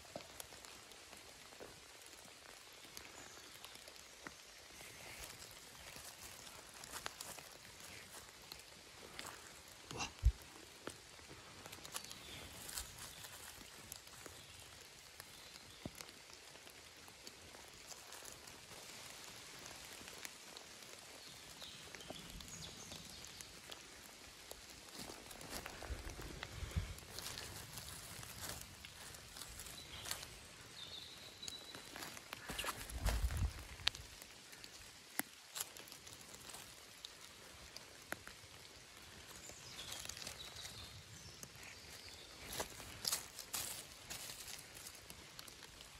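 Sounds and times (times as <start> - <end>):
small ticks in leaf litter: 0.0 - 45.9
steady outdoor hiss: 0.0 - 45.9.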